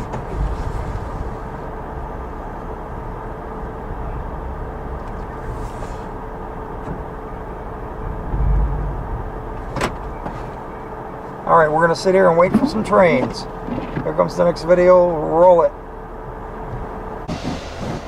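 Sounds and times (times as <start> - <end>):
engine idling hum: 0.0 - 18.0.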